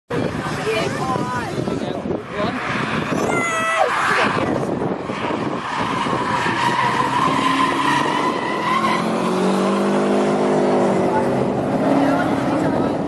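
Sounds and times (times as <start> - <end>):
car engine passing: 2.0 - 13.0
car tyres squealing: 2.1 - 13.0.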